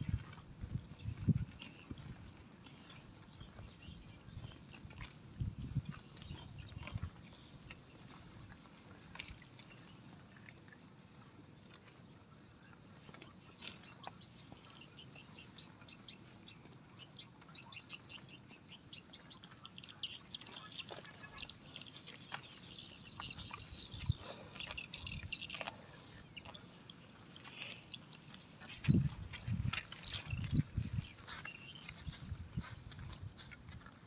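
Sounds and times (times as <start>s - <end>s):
cattle tearing and chewing grass: 0.0s - 34.0s
bird chirping: 1.0s - 33.1s.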